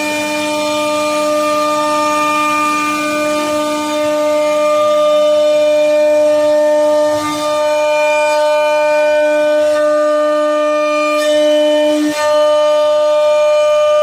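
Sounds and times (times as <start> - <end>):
router spindle whining: 0.0 - 14.0.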